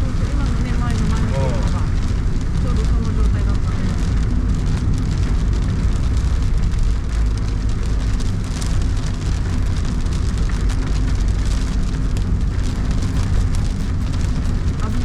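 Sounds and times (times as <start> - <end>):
car road rumble: 0.0 - 15.0
rain hitting car: 0.0 - 15.0.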